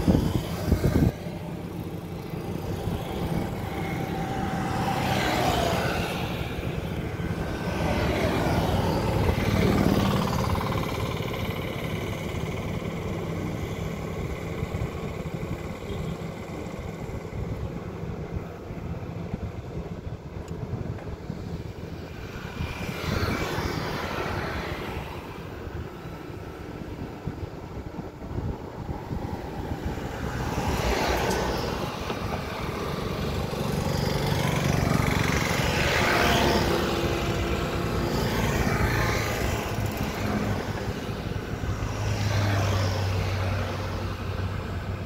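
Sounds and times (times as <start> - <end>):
low engine rumble of machinery: 0.0 - 45.0
road traffic passing: 0.0 - 45.0.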